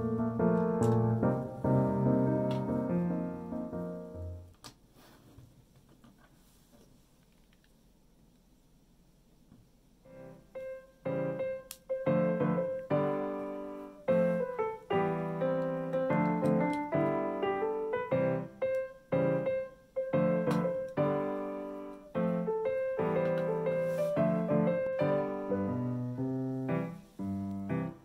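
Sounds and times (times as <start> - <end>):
light piano-like keyboard tune: 0.0 - 4.5, 10.0 - 28.0.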